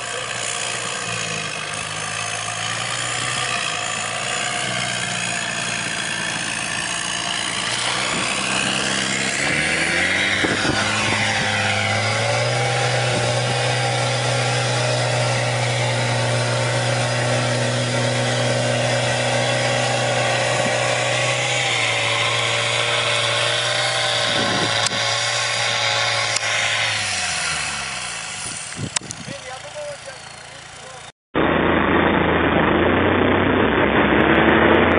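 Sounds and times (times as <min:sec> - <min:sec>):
tracked vehicle engine revving: 0:00.0 - 0:34.9.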